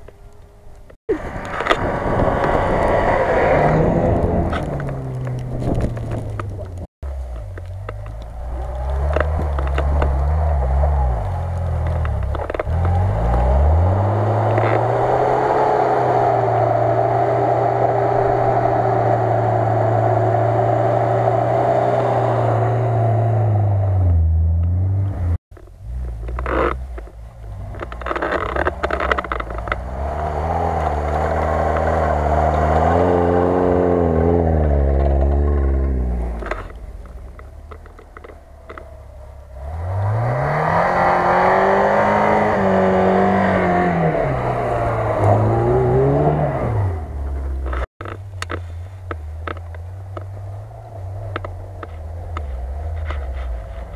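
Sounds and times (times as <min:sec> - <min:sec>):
car engine revving: 0:01.1 - 0:53.9.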